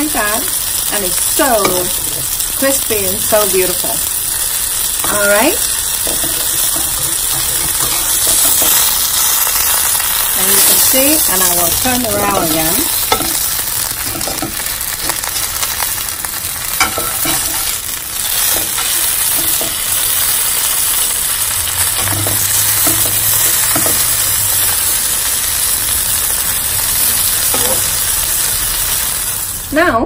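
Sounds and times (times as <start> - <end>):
crepe sizzling in oil: 0.0 - 29.8.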